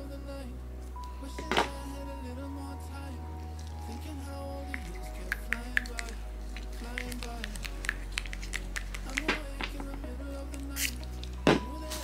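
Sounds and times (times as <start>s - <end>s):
slow melodic background music: 0.0s - 12.0s.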